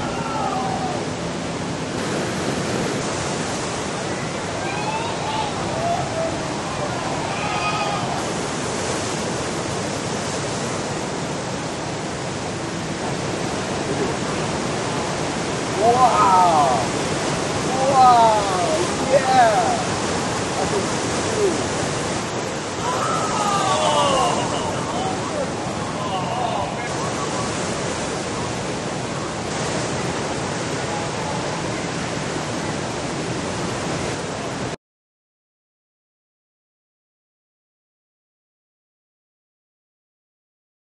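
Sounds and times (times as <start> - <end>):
large ocean waves breaking: 0.0 - 34.8
whitewater churning: 0.0 - 34.8.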